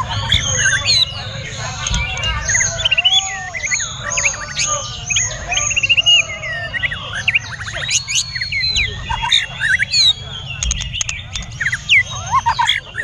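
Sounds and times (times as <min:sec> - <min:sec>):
songbirds whistling and trilling: 0:00.0 - 0:13.0.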